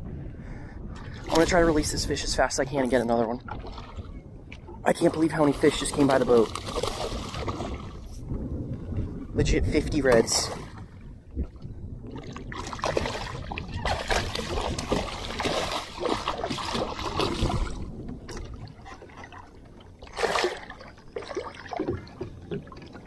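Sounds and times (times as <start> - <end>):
water splashing against boat: 0.9 - 23.0.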